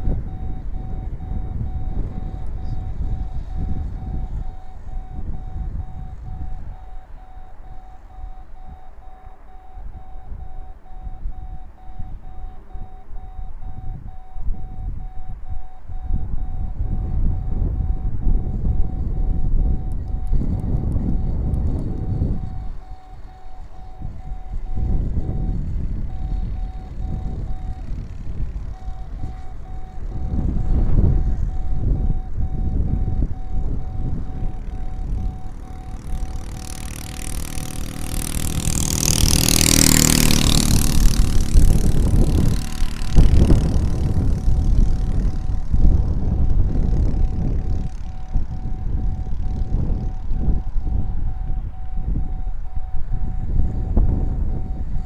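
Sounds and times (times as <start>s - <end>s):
model plane motor and propeller: 0.0s - 55.0s
wind buffeting microphone: 0.0s - 55.0s.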